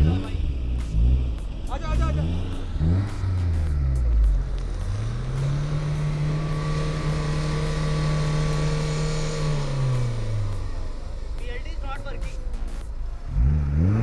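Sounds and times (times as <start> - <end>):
off-road vehicle engine revving: 0.0 - 14.0.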